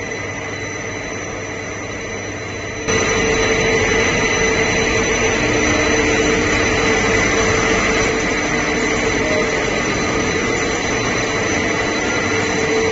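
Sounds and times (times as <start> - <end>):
high whining tones: 0.0 - 12.9
steady machine noise: 0.0 - 12.9.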